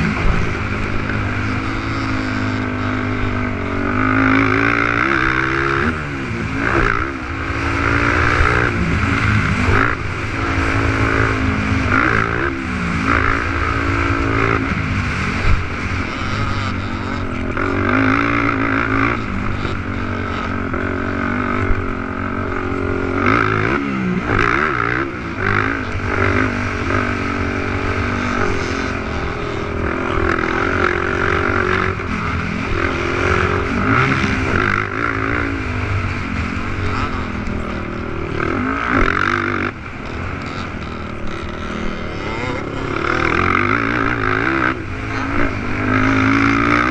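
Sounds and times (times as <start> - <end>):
quad engines revving: 0.0 - 46.9.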